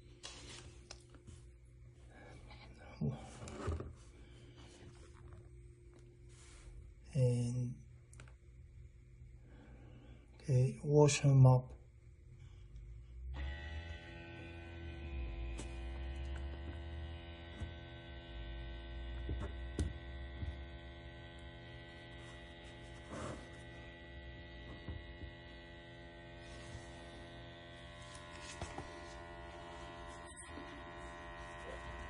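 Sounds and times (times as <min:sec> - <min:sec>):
electric motor hum and whine: 0:00.0 - 0:32.0.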